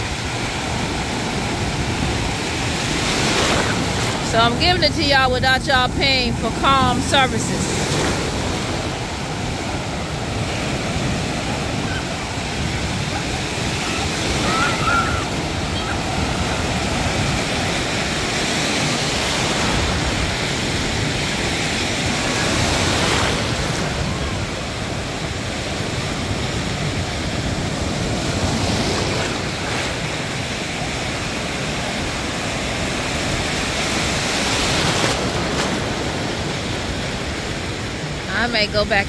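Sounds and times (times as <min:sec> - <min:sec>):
ocean surf washing: 0:00.0 - 0:39.0.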